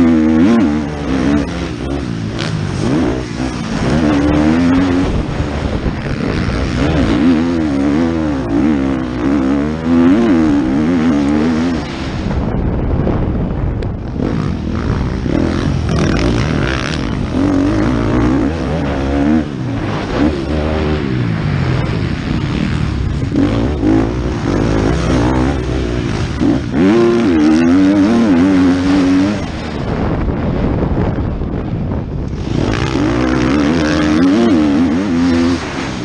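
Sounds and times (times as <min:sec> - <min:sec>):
motocross bike engine revving: 0:00.0 - 0:36.0.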